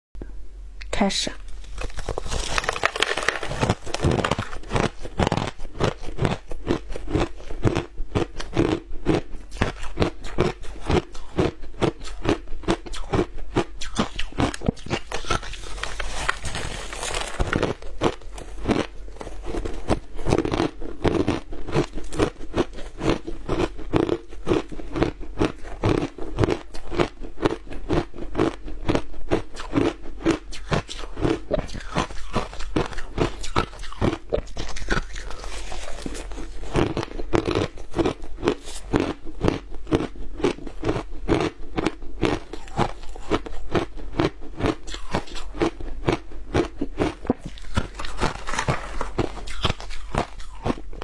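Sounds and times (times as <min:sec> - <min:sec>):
ice being chewed: 0:01.6 - 0:51.0.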